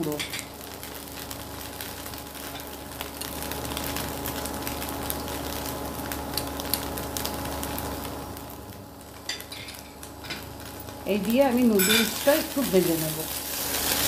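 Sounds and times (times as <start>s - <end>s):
noodles sizzling in oil: 0.0s - 14.0s.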